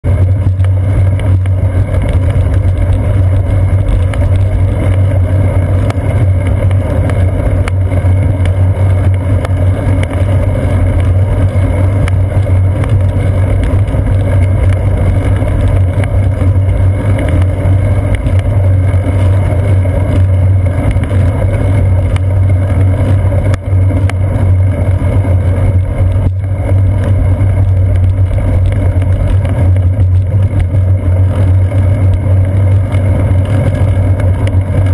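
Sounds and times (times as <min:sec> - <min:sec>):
bicycle road vibration: 0:00.0 - 0:34.9.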